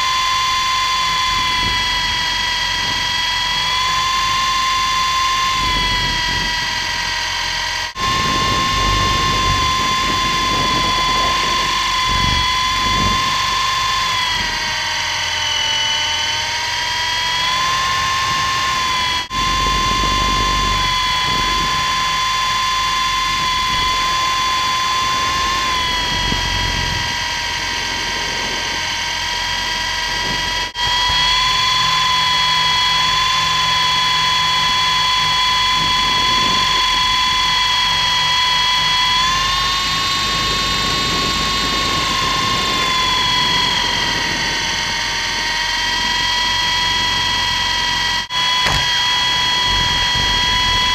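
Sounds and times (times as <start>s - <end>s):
wind rumble on microphone: 0.0s - 7.1s, 8.0s - 15.1s, 17.4s - 50.9s
rc helicopter motor whine: 0.0s - 50.9s.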